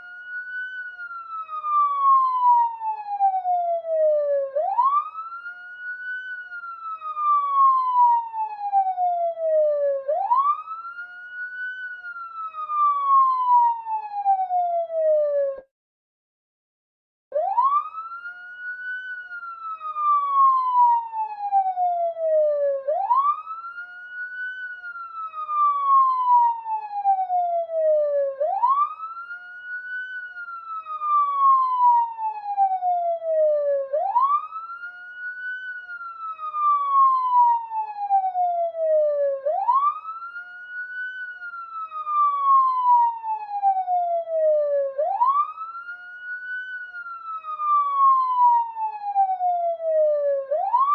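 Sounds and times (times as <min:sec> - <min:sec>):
police siren wailing: 0:00.0 - 0:15.7, 0:17.3 - 0:50.9.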